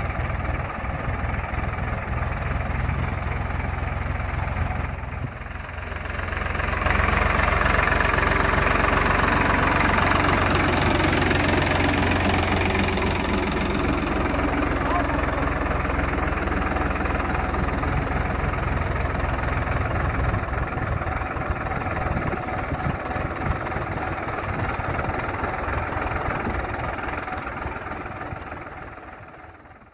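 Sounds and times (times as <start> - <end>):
diesel tractor engine running: 0.0 - 29.9.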